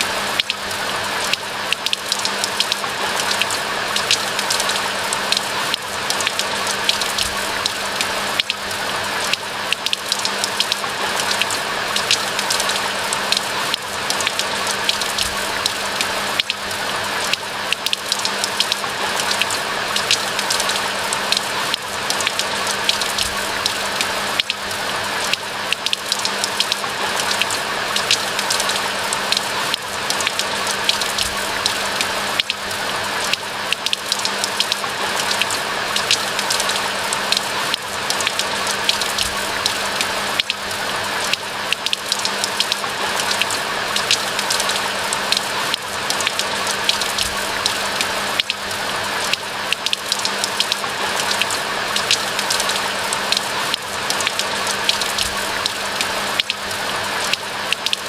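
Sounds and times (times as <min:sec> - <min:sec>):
rain drop ticks: 0:00.0 - 0:58.0.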